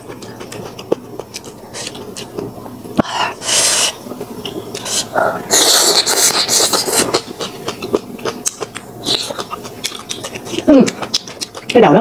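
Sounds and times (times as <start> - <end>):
mouth clicks and chewing: 0.0 - 2.5, 4.4 - 12.0.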